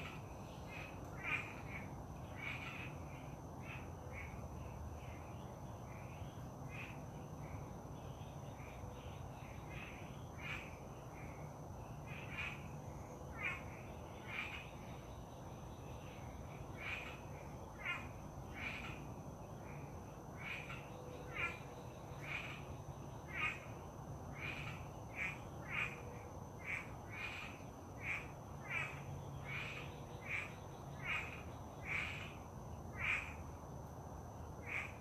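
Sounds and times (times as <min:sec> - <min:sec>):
low hum of wind: 0:00.0 - 0:35.0.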